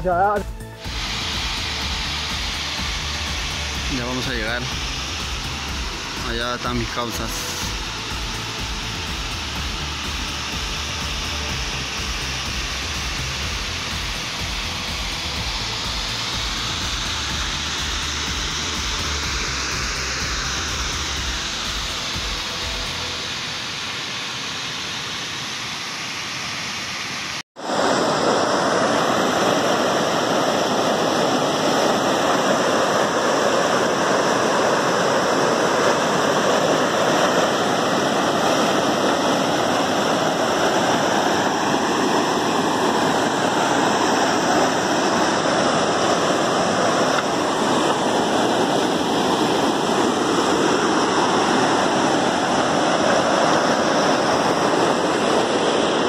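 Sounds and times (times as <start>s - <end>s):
stream water rushing over weir: 0.1s - 56.0s.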